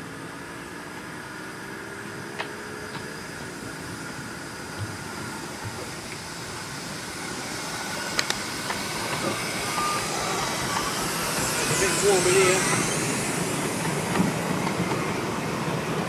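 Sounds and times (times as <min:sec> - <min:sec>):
steam locomotive passing: 0:00.0 - 0:16.0.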